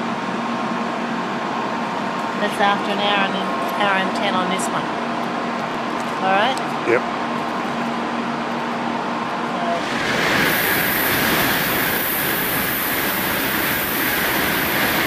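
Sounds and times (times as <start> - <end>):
high-speed train rushing past: 0.0 - 6.4, 8.0 - 15.0.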